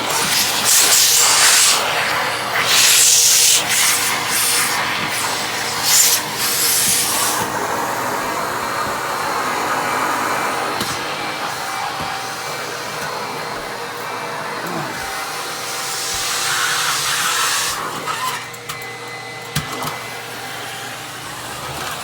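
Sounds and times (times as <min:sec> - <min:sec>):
vacuum cleaner running: 0:00.0 - 0:22.0
vacuum sucking up pine needles: 0:00.0 - 0:22.0.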